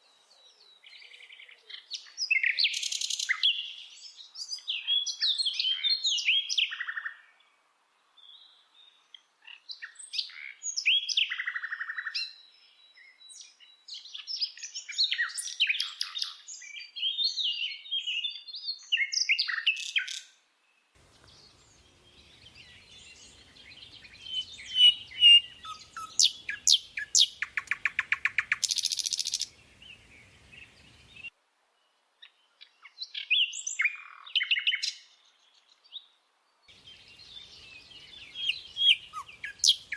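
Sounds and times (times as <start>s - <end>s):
bird singing: 0.0s - 7.6s, 8.2s - 39.9s.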